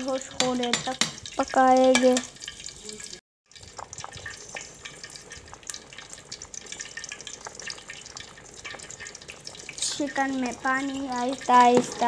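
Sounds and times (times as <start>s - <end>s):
sauce bubbling and popping: 0.0s - 12.0s.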